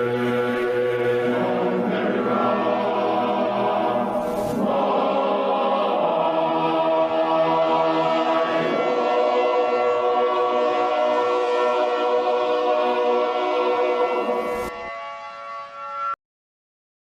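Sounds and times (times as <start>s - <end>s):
choir singing held chords: 0.0s - 15.9s.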